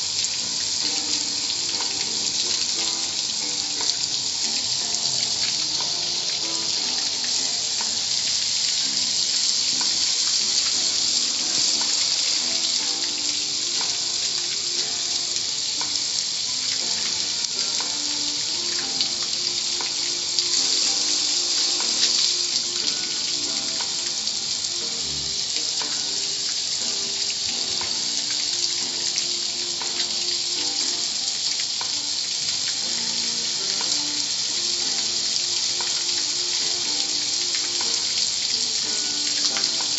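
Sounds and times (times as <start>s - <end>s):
water spraying hiss: 0.0s - 39.9s.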